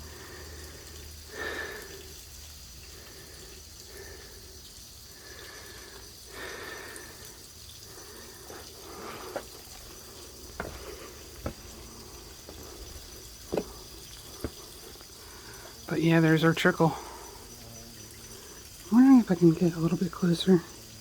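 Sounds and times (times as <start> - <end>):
waterfall trickling over rock: 0.0 - 21.0.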